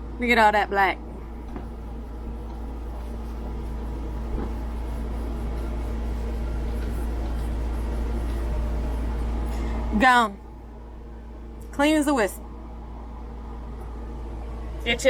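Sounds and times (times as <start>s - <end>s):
faint constant tone: 0.0s - 15.0s
low mechanical hum: 0.0s - 15.0s.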